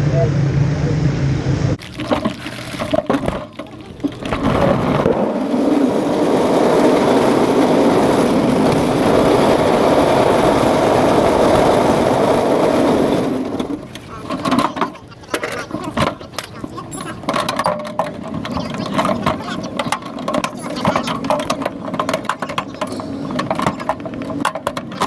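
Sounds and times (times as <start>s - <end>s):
chassis noise: 0.0s - 25.0s
small race car engine running hard: 0.0s - 25.0s
wind noise: 0.0s - 25.0s.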